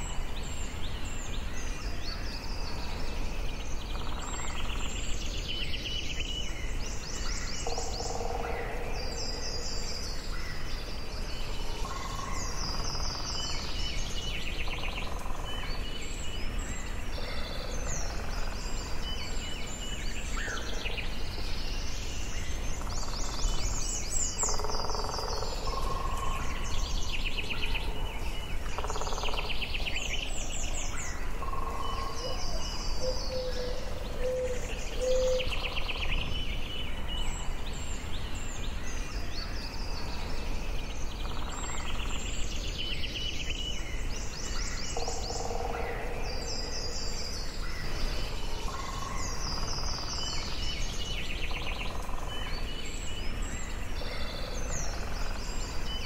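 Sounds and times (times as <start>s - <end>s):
low evenly spaced bird notes: 0.0s - 56.0s
songbirds singing: 0.0s - 56.0s.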